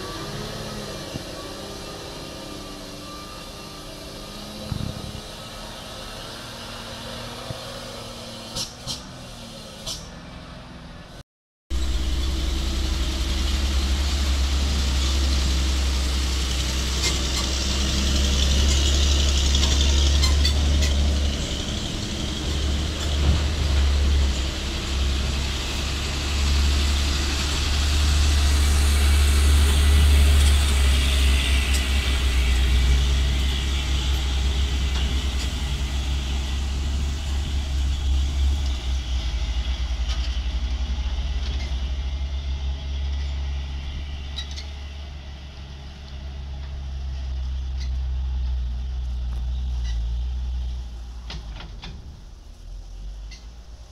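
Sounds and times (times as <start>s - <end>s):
dump truck engine driving past: 0.0s - 53.9s.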